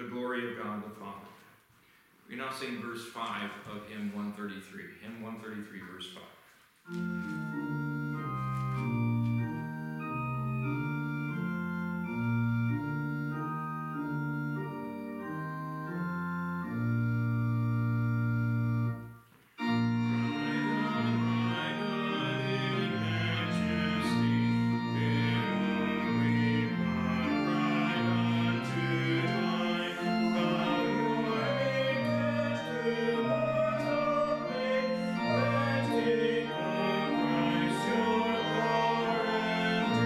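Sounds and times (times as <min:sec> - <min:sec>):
organ playing held chords: 0:06.8 - 0:40.0.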